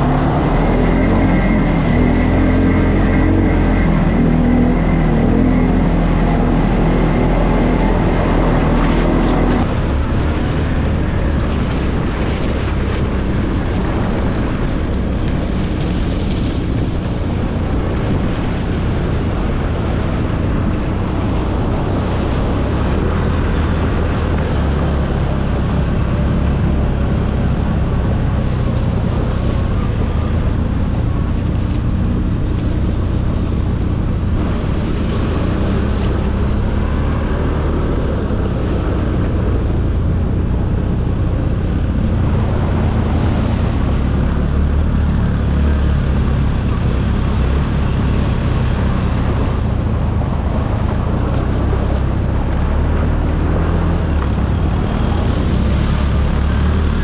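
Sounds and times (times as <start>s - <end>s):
atv engine drone: 0.0s - 57.0s
rush of noise: 0.0s - 57.0s.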